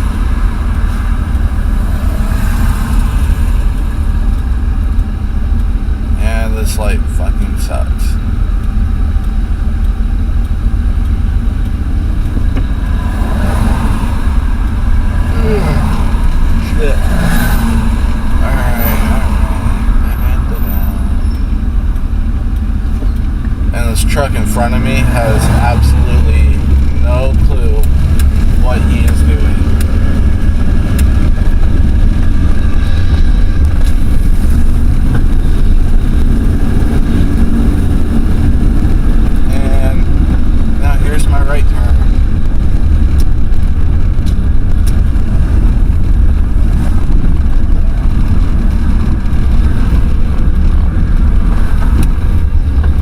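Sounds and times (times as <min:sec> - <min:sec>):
pickup engine running: 0:00.0 - 0:53.0.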